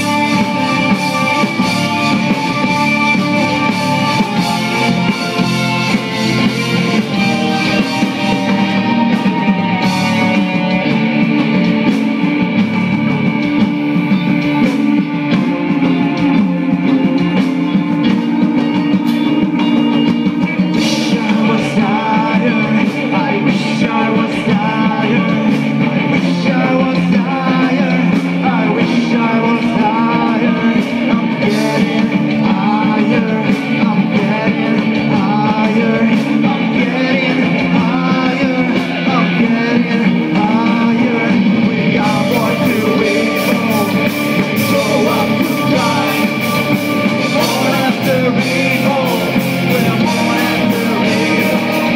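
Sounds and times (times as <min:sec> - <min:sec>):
guitars: 0:00.0 - 0:51.9
person singing: 0:00.0 - 0:51.9.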